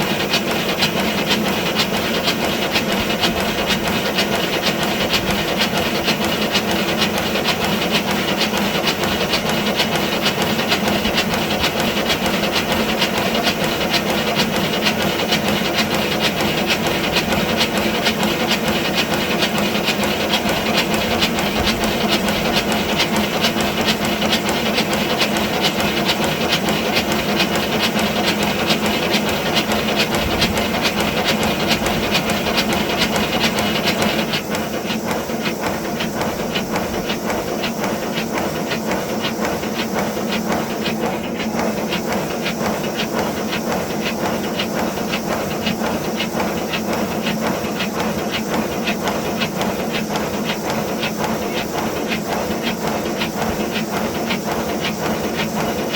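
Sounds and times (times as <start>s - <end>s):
steam locomotive exhaust beats: 0.0s - 55.9s.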